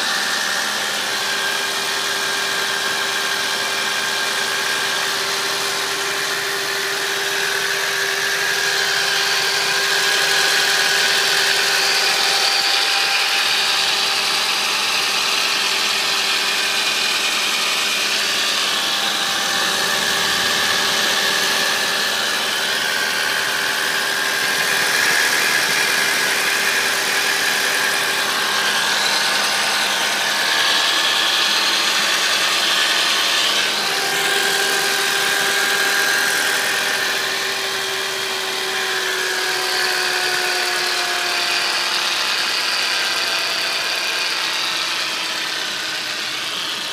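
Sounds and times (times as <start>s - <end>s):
whining tones: 0.0s - 46.9s.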